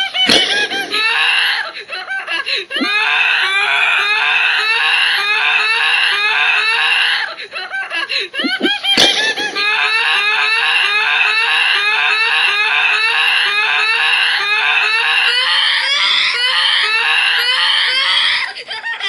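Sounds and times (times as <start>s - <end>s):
shrill rising screams: 0.0s - 7.4s, 8.4s - 18.6s.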